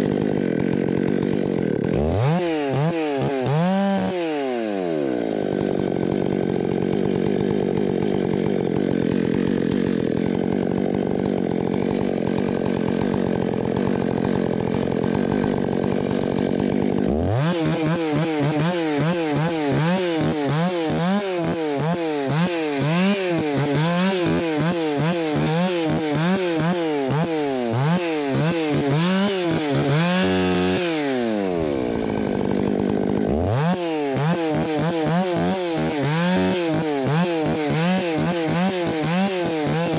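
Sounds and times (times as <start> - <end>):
chainsaw running and revving: 0.0 - 39.9.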